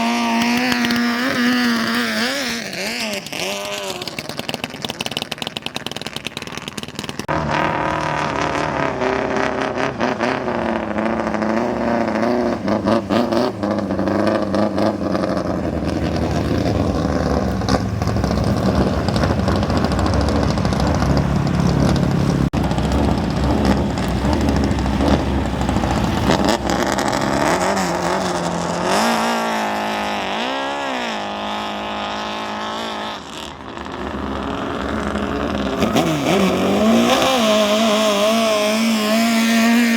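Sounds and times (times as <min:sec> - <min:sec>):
speedboat engines revving: 0:00.0 - 0:39.9.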